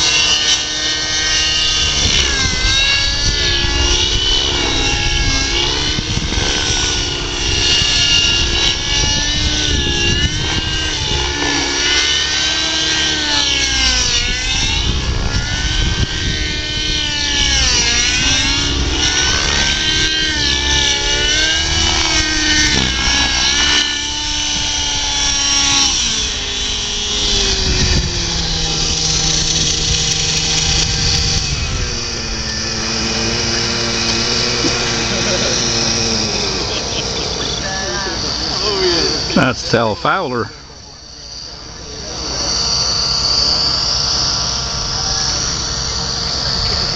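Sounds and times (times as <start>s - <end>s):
model helicopter rotor whine: 0.0s - 46.9s.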